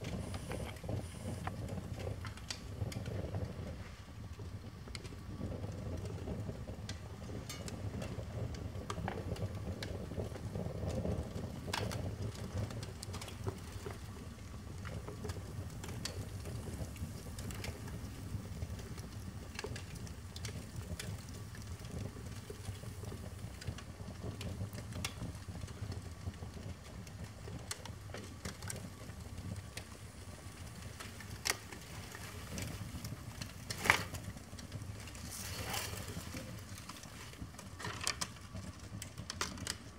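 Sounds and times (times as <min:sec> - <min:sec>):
fire crackling and popping: 0:00.0 - 0:39.9
fire rushing: 0:00.0 - 0:39.9.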